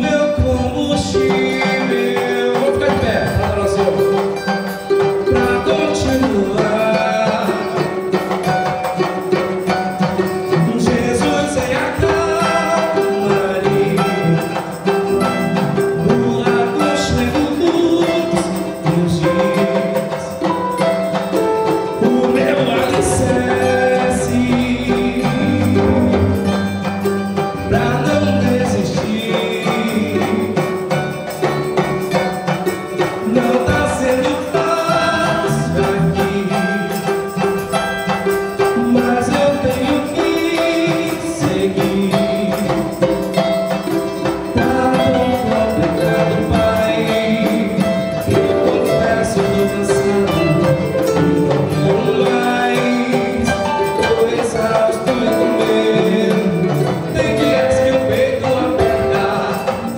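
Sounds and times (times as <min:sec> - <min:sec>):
live worship band playing: 0:00.0 - 0:59.9
man singing into microphone: 0:00.0 - 0:59.9.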